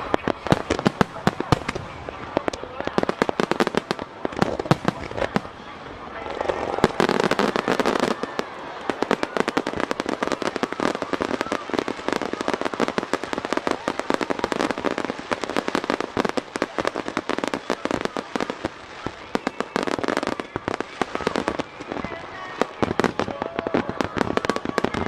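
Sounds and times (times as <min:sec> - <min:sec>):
fireworks cracking and popping: 0:00.0 - 0:25.0.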